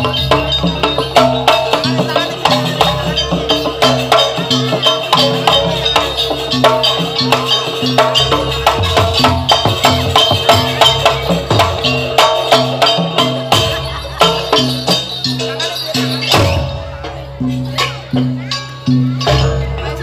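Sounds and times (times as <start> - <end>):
percussion ensemble music: 0.0 - 20.0.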